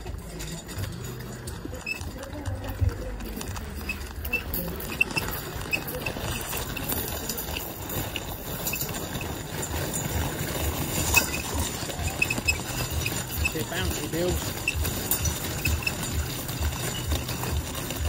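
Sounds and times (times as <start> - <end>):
footsteps on gravel: 0.0 - 18.0.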